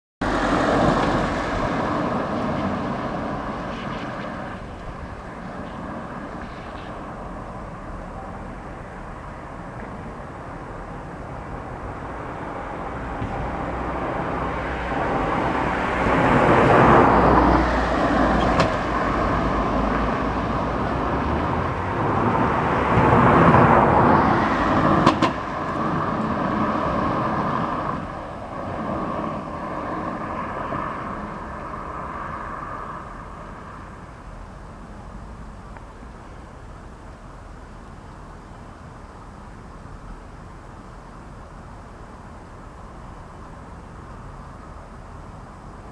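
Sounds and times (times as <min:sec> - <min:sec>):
bus driving past: 0:00.2 - 0:45.9.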